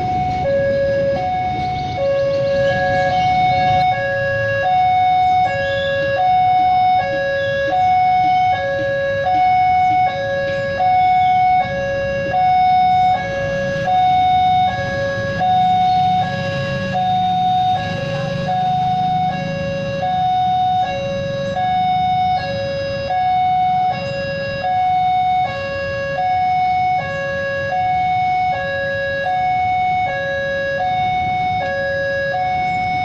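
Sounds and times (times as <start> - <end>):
level crossing two-tone alarm: 0.0 - 33.0.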